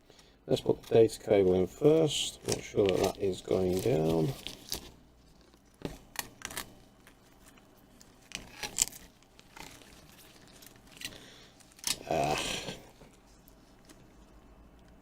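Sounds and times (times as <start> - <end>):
plastic film crinkling: 0.6 - 15.0.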